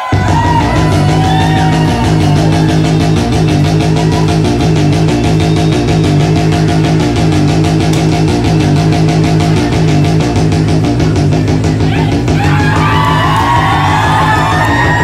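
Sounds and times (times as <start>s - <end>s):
dance backing track with heavy bass: 0.0s - 15.0s
repeating bass line: 0.0s - 15.0s.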